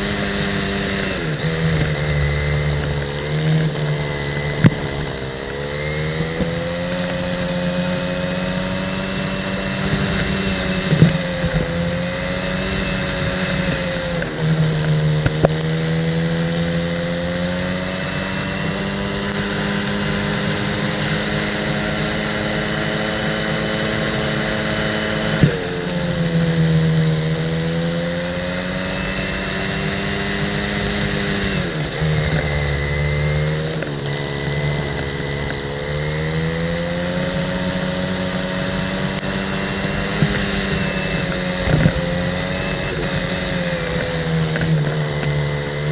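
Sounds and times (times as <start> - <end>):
go-kart engine revving: 0.0 - 45.9.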